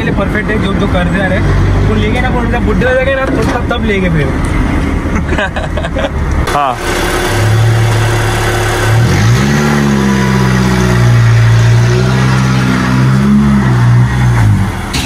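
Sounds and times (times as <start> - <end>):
engine running under load: 0.0 - 15.0.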